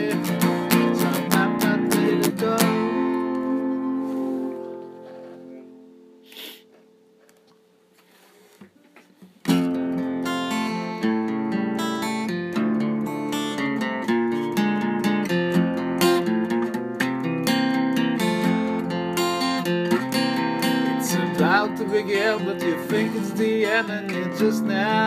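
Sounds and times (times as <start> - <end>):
acoustic guitar strumming: 0.0 - 8.1, 8.8 - 25.0.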